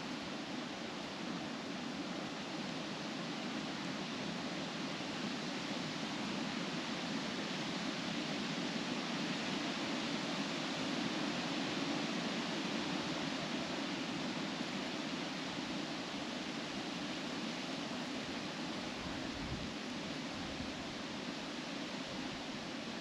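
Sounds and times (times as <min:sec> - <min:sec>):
wind rustling leaves: 0:00.0 - 0:23.0.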